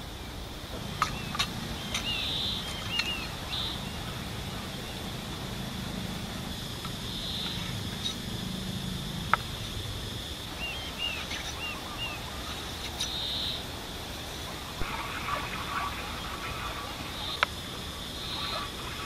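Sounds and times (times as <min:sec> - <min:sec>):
birds chirping: 0:00.0 - 0:19.0
steady high hum: 0:00.0 - 0:19.0.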